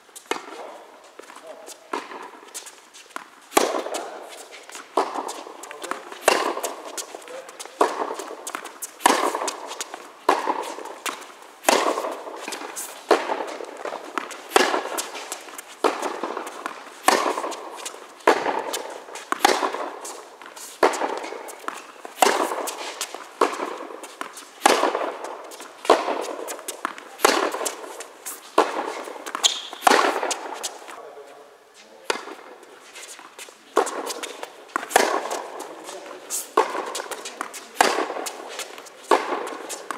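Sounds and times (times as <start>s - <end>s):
tennis balls bouncing on court: 0.2s - 31.2s, 32.0s - 39.9s
tennis balls struck with rackets: 0.2s - 31.2s, 32.0s - 39.9s.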